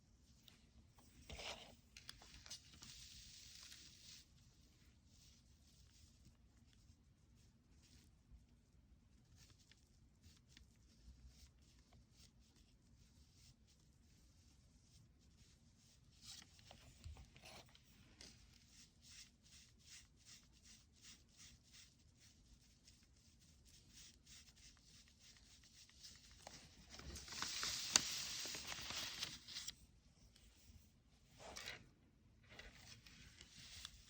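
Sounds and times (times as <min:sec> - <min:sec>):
paintbrush strokes on paper: 0:00.0 - 0:31.8, 0:32.5 - 0:34.0
rubbing on paper: 0:02.4 - 0:29.7.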